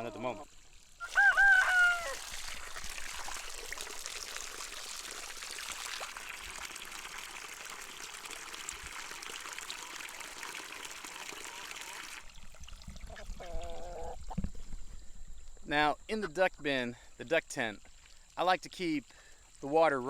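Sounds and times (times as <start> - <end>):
water pouring from hose: 0.0 - 14.8, 17.8 - 20.0.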